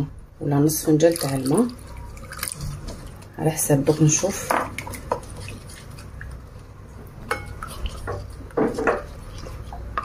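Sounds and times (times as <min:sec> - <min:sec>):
wooden spoon stirring liquid: 0:01.2 - 0:10.0.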